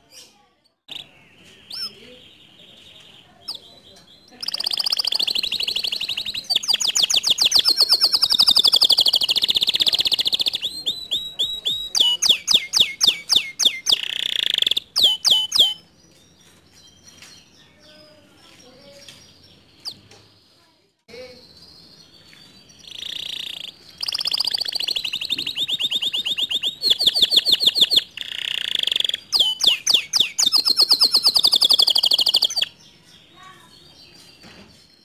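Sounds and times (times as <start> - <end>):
canary singing trills: 0.0 - 35.0
faint bird chirps: 0.0 - 35.0.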